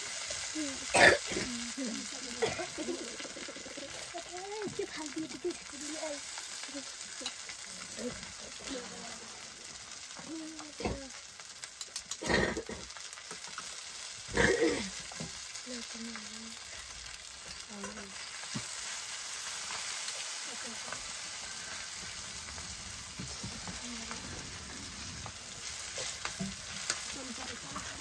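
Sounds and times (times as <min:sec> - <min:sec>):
noodles sizzling in a wok: 0:00.0 - 0:28.0.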